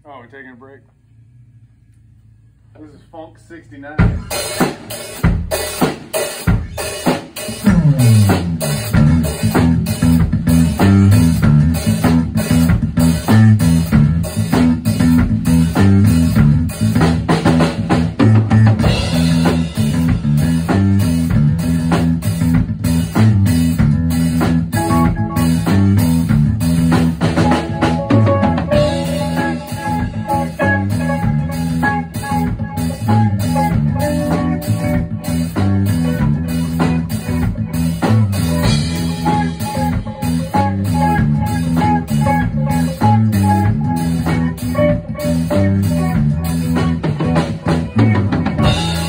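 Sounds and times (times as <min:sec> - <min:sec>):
bass guitar line: 0:00.0 - 0:49.0
drum kit beat: 0:02.8 - 0:49.0
guitar notes: 0:04.0 - 0:49.0.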